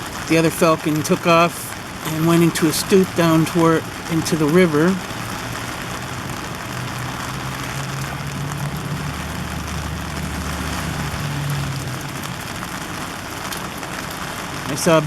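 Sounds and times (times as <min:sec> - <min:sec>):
low engine hum: 0:00.0 - 0:14.1
heavy rain falling: 0:00.0 - 0:15.0.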